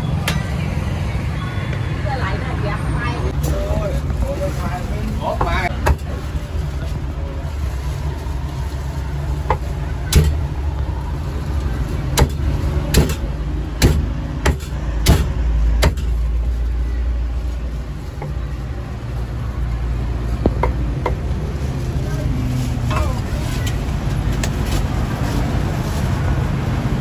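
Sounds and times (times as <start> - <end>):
low rumble of street traffic: 0.0 - 27.0.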